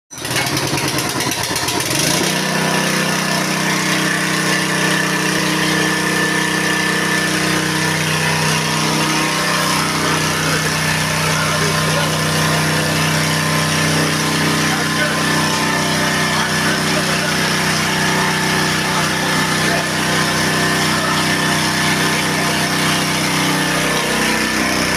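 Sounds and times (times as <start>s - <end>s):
small petrol engine running: 0.1s - 24.9s.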